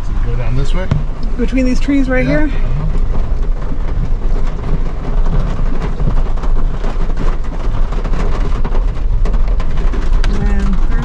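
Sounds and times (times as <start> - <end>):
knocks and rattles: 0.0 - 11.0
vehicle engine and tyres rumbling: 0.0 - 11.0.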